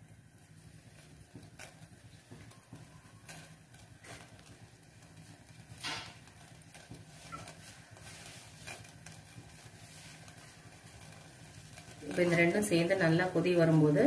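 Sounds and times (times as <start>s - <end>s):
water heating hum: 0.0s - 14.0s.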